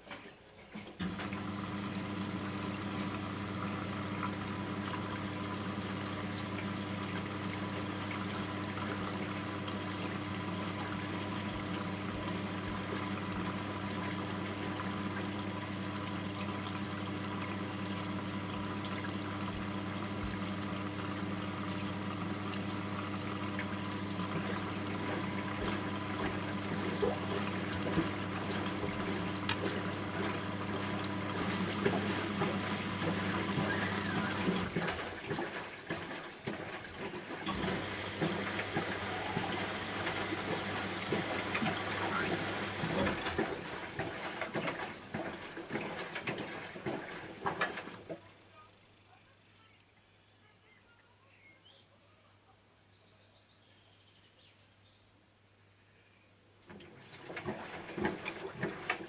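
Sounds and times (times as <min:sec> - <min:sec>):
washing machine motor hum: 0:00.8 - 0:48.3, 0:56.6 - 0:59.0
water rushing and trickling: 0:01.0 - 0:48.3, 0:56.7 - 0:59.0.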